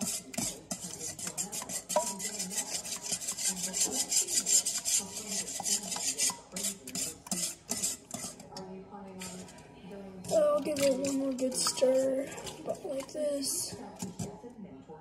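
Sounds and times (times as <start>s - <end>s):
whisk beating in metal bowl: 0.0s - 14.4s.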